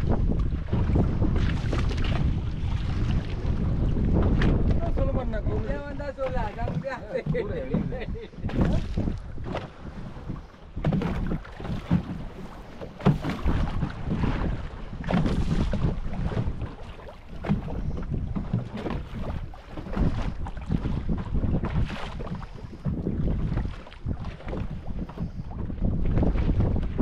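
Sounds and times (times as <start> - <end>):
waves slapping boat hull: 0.0 - 27.0
wind buffeting microphone: 0.0 - 27.0.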